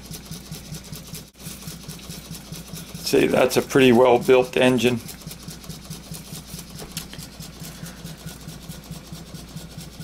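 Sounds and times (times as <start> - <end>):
model steam engine running: 0.0 - 10.0.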